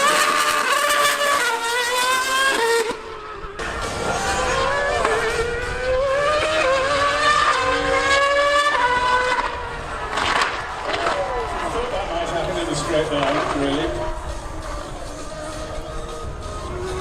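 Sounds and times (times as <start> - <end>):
racing engine accelerating through gears: 0.0 - 17.0.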